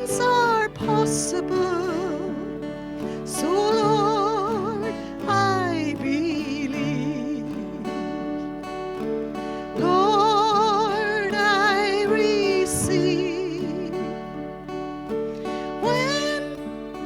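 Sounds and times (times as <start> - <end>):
acoustic guitar: 0.0 - 17.0
person singing with vibrato: 0.0 - 17.0.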